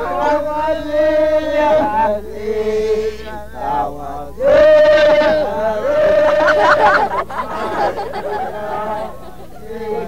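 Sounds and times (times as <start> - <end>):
voices chanting: 0.0 - 10.0.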